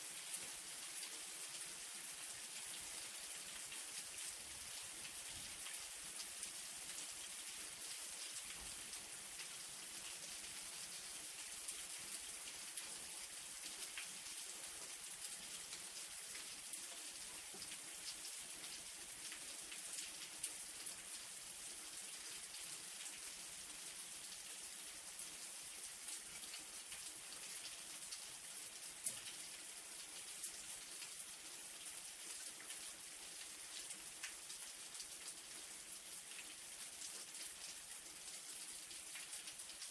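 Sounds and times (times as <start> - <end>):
light rain falling: 0.0 - 39.9
raindrops ticking on surface: 2.3 - 23.3, 25.4 - 39.9.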